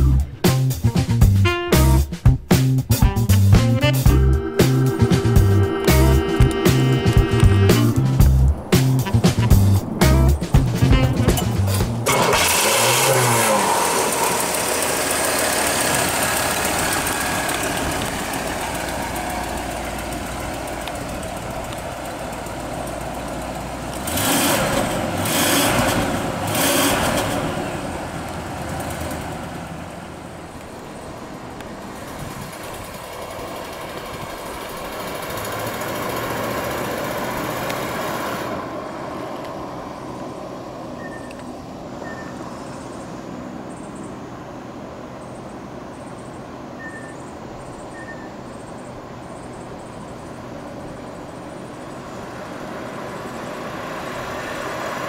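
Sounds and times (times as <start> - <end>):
car pulling away: 0.0 - 55.0
car engine revving and idling: 2.9 - 43.0, 49.3 - 55.0.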